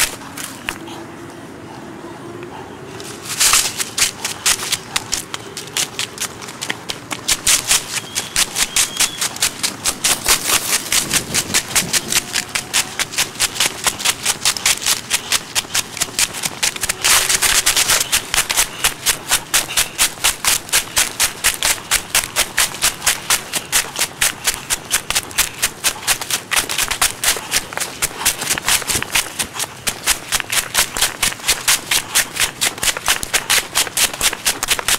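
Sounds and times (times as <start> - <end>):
running footsteps on dry leaves: 0.0 - 1.0, 2.5 - 34.9.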